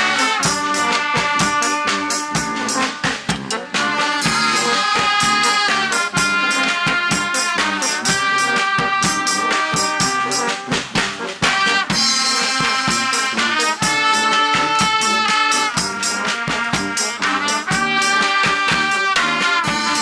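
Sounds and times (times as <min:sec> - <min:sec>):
brass band playing: 0:00.0 - 0:20.0
drums beating: 0:00.0 - 0:20.0
trumpets: 0:00.0 - 0:20.0.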